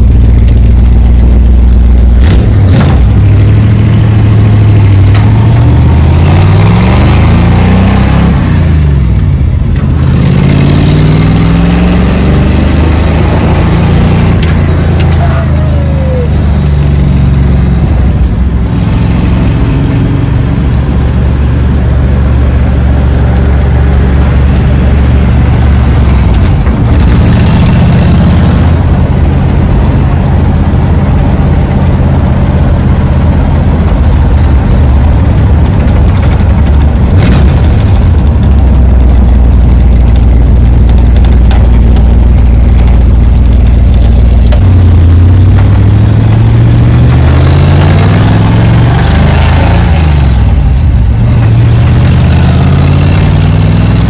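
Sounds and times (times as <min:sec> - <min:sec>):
road and wind noise: 0:00.0 - 0:54.0
truck engine running loud: 0:00.0 - 0:54.0.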